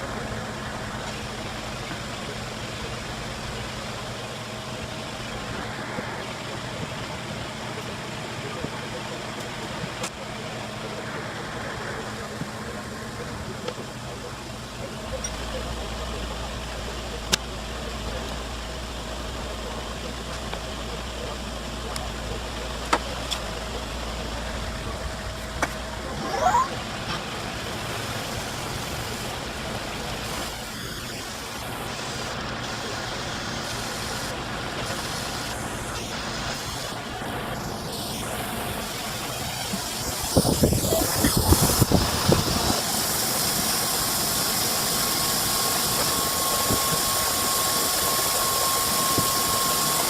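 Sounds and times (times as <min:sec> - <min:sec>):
motor-driven machine running: 0:00.0 - 0:50.0.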